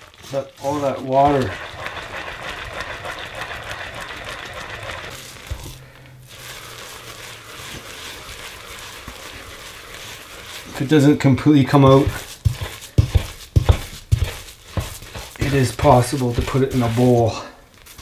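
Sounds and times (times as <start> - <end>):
spoon scraping crystallizing sugar: 0.0 - 18.0.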